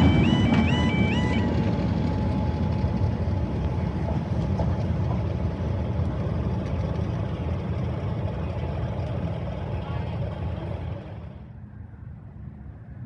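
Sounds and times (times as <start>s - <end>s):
train rumbling: 0.0s - 12.6s.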